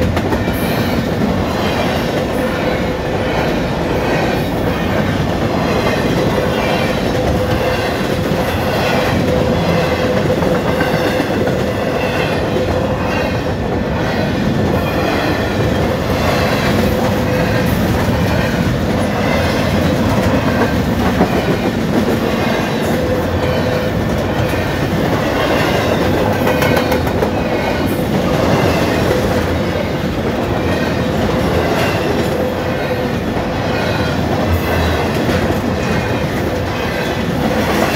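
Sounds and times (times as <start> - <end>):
steel wheels rolling on rails: 0.0 - 37.9.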